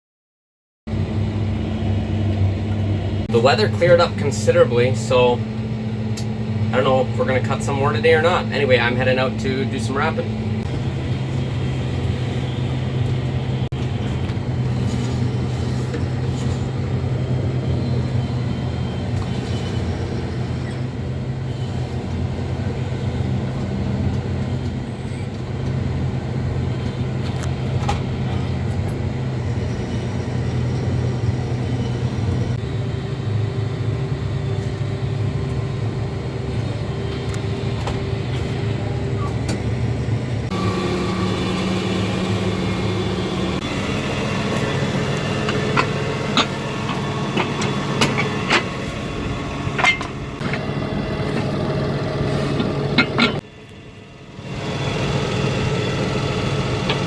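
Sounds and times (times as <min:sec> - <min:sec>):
vehicle engine humming: 0:00.9 - 0:57.0.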